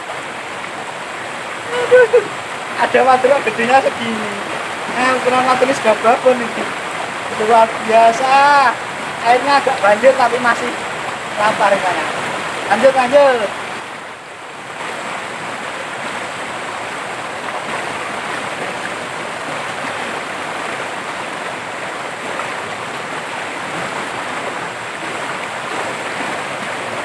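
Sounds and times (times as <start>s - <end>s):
river rushing over rocks: 0.0s - 27.0s.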